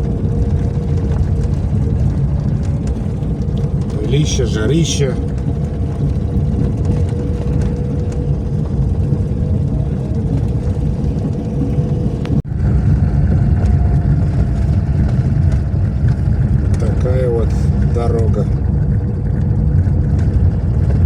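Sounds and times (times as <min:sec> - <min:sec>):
car on rough dirt road: 0:00.0 - 0:21.0.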